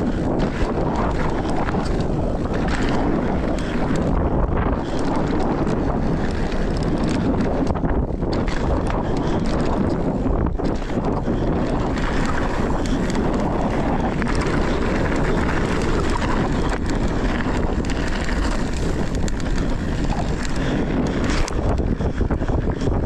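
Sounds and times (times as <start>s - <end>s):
bike clicks and rattles: 0.0s - 23.0s
tyres rolling on dirt and gravel: 0.0s - 23.0s
wind buffeting microphone: 0.0s - 23.0s.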